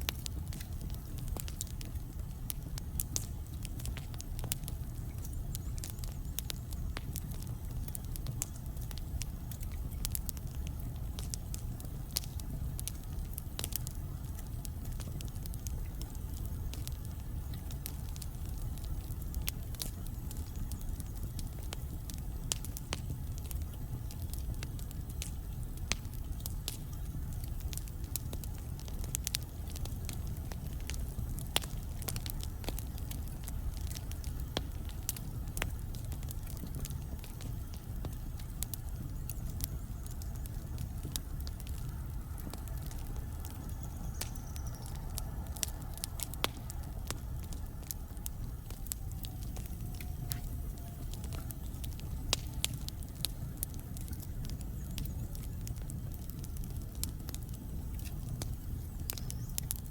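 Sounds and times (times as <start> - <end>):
crackles and pops of burning logs: 0.0 - 59.9
low rumble of flames: 0.0 - 59.9.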